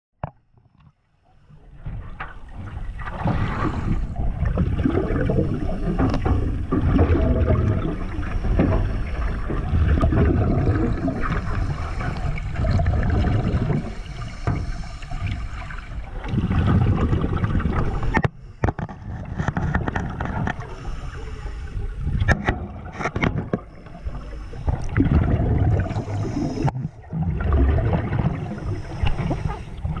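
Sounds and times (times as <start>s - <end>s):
underwater sloshing and gurgling: 0.2s - 30.0s.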